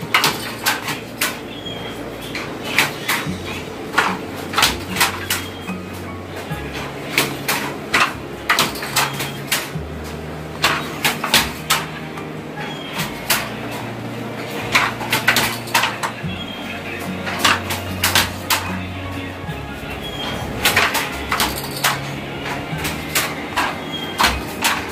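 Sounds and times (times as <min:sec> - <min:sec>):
wooden loom clacking: 0:00.0 - 0:24.9.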